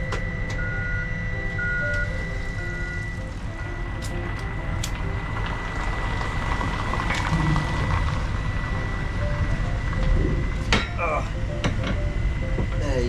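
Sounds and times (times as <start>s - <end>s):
high whine: 0.0s - 13.0s
machine low rumble: 0.0s - 13.0s.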